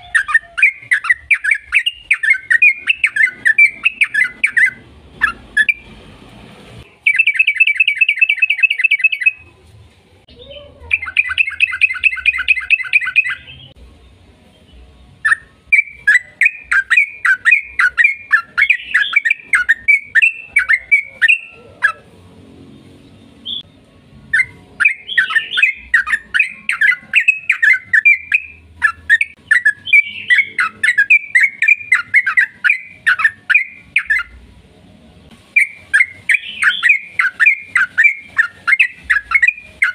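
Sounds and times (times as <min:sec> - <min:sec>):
bird chattering notes: 0:00.0 - 0:05.9, 0:07.0 - 0:09.4, 0:10.5 - 0:13.8, 0:15.3 - 0:22.1, 0:24.3 - 0:34.4, 0:35.6 - 0:39.9
bird trilling: 0:00.0 - 0:06.0, 0:07.0 - 0:09.4, 0:10.4 - 0:13.8, 0:15.2 - 0:22.1, 0:24.3 - 0:34.4, 0:35.5 - 0:39.9.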